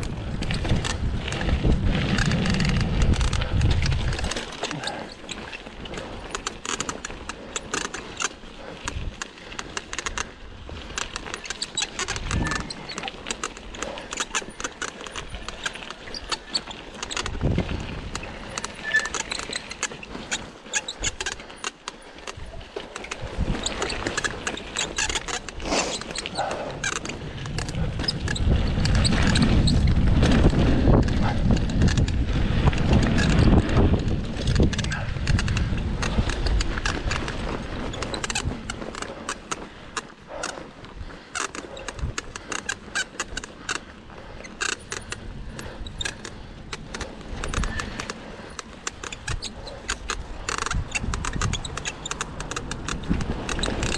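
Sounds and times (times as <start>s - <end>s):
bike squeaks: 0.0s - 53.9s
mountain bike rattling and clicking: 0.0s - 53.9s.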